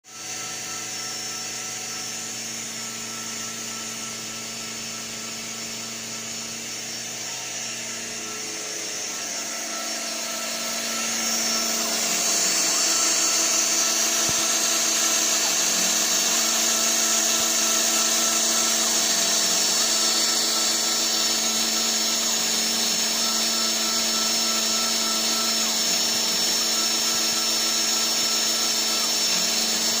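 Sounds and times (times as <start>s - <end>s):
milling machine motor whine: 0.1s - 30.0s.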